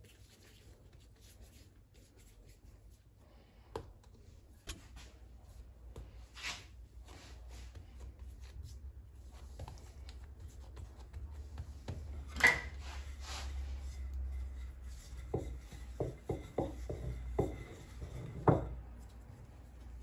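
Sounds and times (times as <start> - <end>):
hands rubbing and handling: 0.0 - 3.2, 4.1 - 18.3.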